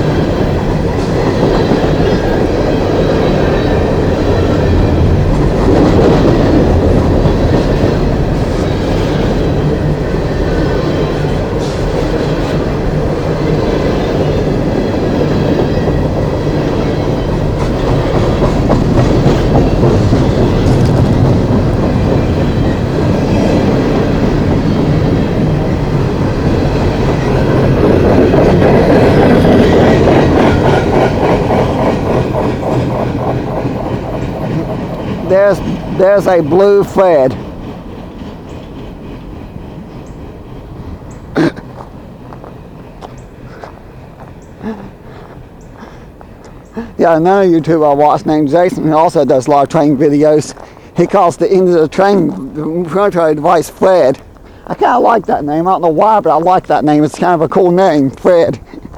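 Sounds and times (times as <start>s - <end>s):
train wheels clacking over rail joints: 0.0s - 58.9s.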